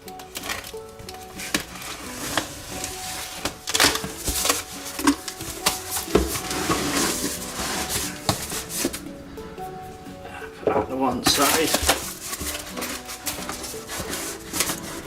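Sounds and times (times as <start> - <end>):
cardboard packaging rustling: 0.0 - 10.0, 10.8 - 15.0.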